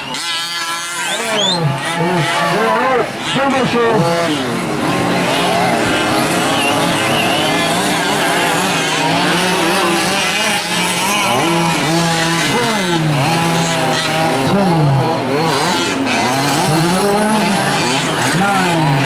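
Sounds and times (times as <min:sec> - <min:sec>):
small two-stroke engines revving: 0:00.0 - 0:19.0.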